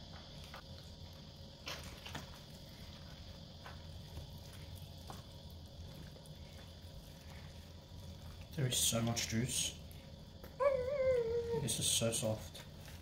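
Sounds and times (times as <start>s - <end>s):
faint high-pitched hum: 0.0s - 13.0s
soft crackles: 0.0s - 13.0s.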